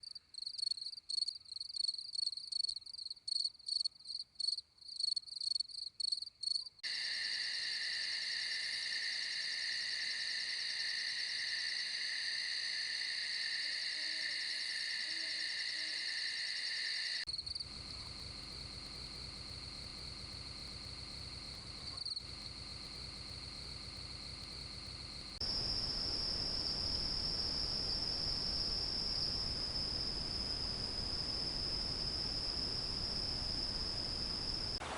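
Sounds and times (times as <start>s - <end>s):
insects chirping and trilling: 0.0s - 34.8s.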